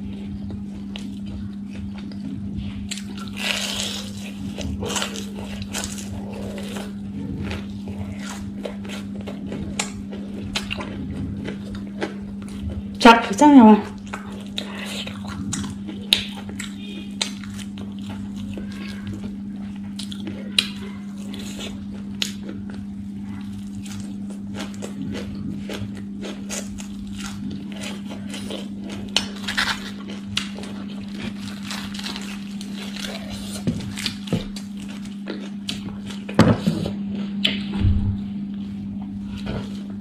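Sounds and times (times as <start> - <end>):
chewing and crunching food: 0.0 - 37.7, 38.5 - 40.0
steady low hum: 0.0 - 40.0.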